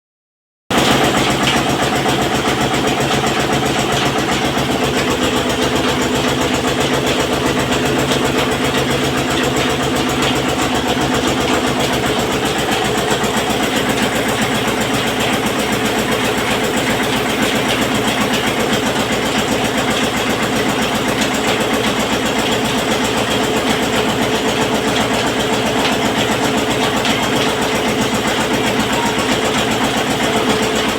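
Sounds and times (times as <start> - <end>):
oil press machine drone: 0.7 - 30.9.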